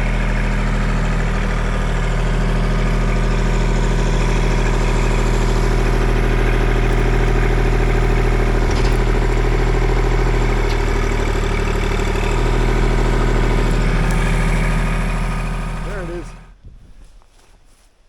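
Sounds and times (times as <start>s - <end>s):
tractor diesel engine running: 0.0s - 16.6s.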